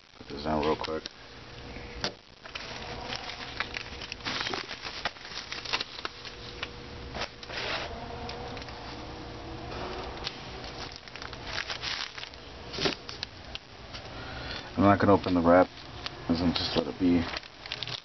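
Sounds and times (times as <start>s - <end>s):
packaging rustling and crinkling: 0.0s - 1.1s, 2.4s - 9.0s, 10.0s - 14.1s, 15.3s - 18.0s.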